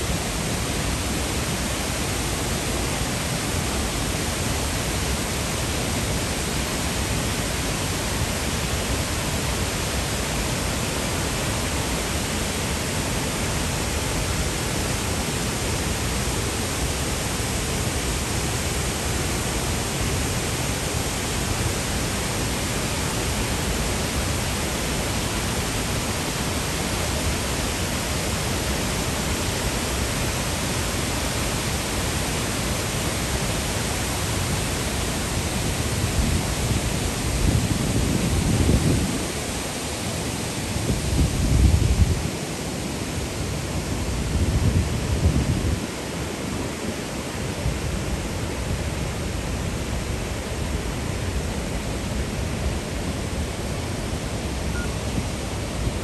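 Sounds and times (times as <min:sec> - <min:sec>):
whitewater rushing through gorge: 0:00.0 - 0:56.0.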